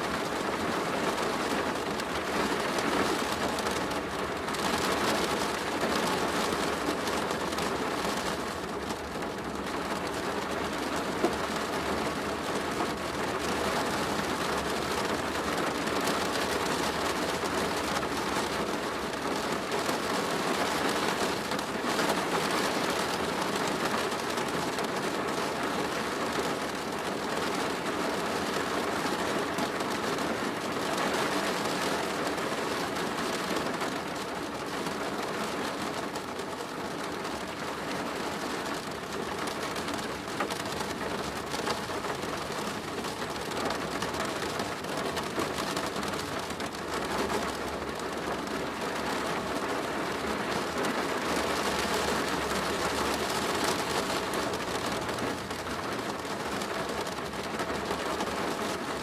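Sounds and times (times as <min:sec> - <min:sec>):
rain on a plastic roof: 0:00.0 - 0:59.0.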